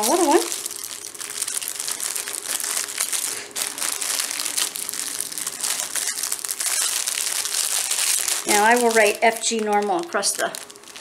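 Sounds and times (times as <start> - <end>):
plastic packs crinkling: 0.0 - 11.0.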